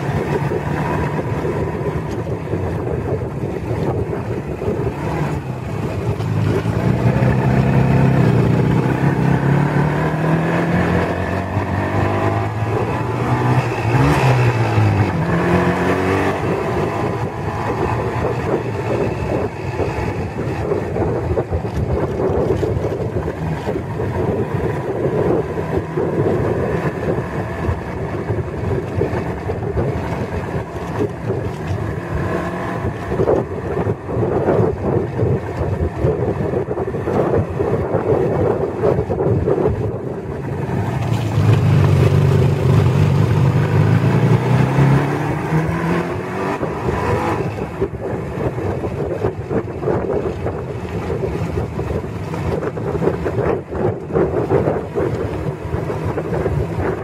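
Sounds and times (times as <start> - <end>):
deeper engine sound: 0.0 - 57.0
motorcycle engine running: 0.0 - 57.0
wind buffeting microphone: 0.0 - 57.0.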